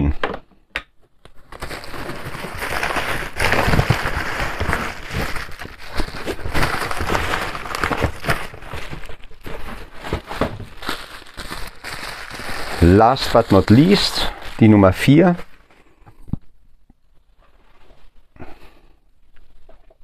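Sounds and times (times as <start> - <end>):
bubble wrap rustling and crackling: 1.2 - 16.5, 17.1 - 18.4.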